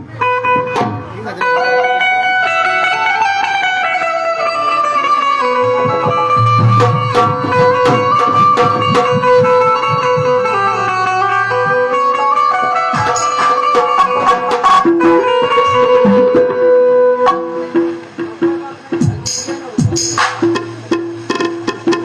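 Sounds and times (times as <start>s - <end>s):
traditional music over sound system: 0.0s - 22.0s
hand drum strokes: 0.1s - 2.6s, 5.5s - 22.0s.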